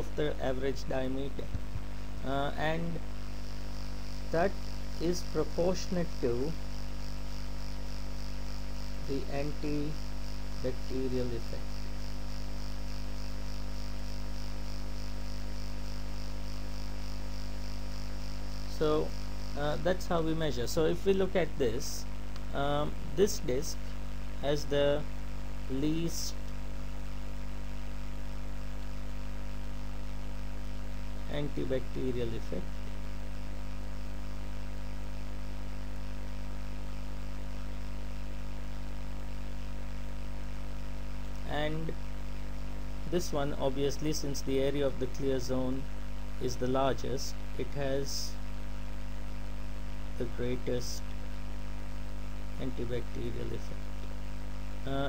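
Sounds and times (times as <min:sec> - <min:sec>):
even hiss: 0:00.0 - 0:51.4, 0:52.5 - 0:53.9, 0:54.7 - 0:55.0
electrical mains hum: 0:00.0 - 0:55.0
faint pulsing high buzz: 0:00.0 - 0:55.0.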